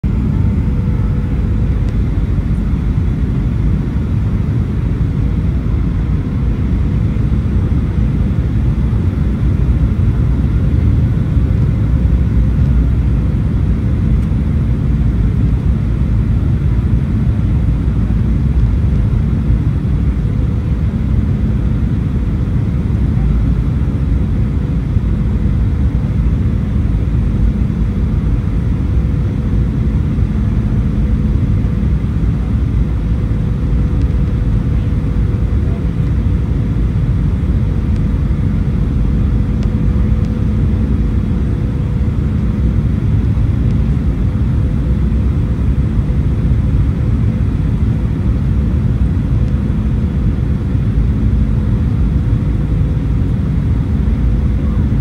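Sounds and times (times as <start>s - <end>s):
airplane cabin engine rumble: 0.0s - 55.0s
thin steady hum: 0.0s - 55.0s.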